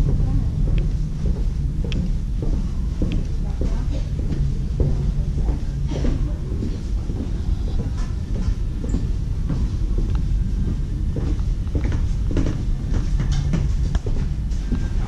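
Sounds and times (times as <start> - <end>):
footsteps on wooden planks: 0.0 - 15.0
low rumble: 0.0 - 15.0.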